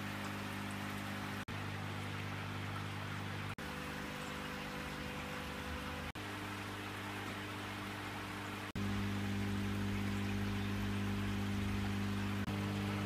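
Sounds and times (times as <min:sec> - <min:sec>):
air pump hum: 0:00.0 - 0:13.0
bubbling running water: 0:00.0 - 0:13.0.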